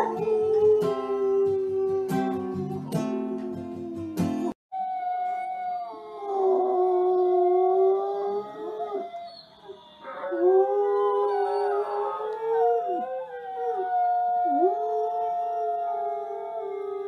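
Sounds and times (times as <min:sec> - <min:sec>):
wolf howling on television: 0:00.0 - 0:02.8, 0:04.8 - 0:17.0
dog howling: 0:00.0 - 0:17.0.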